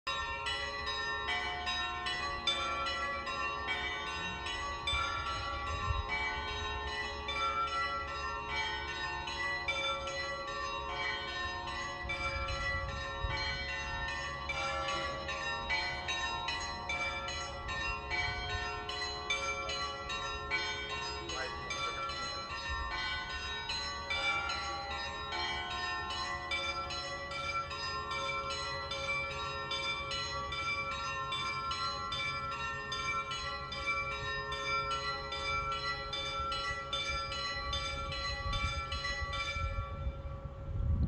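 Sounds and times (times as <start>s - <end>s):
church bells pealing: 0.1s - 41.0s.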